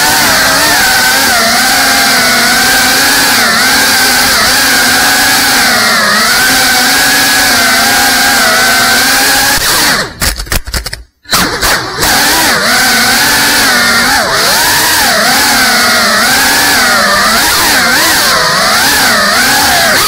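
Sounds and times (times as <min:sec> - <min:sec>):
drone motors whining: 0:00.0 - 0:10.2, 0:11.3 - 0:20.0.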